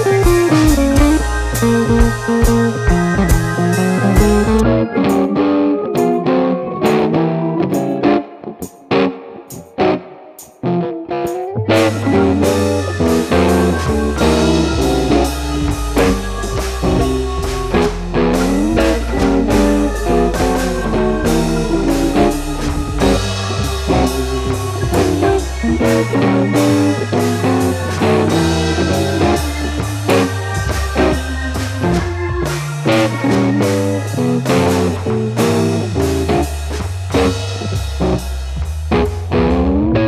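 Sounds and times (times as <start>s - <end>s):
bluesy rock music: 0.0s - 40.0s.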